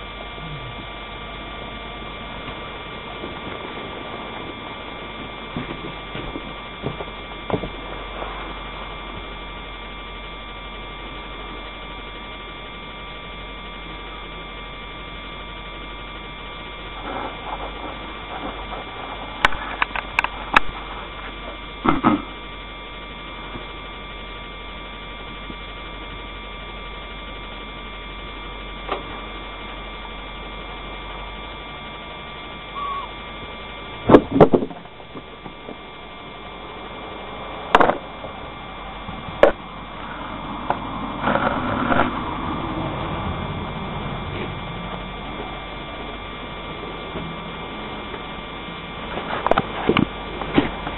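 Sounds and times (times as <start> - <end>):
electrical hum: 0.0 - 50.9.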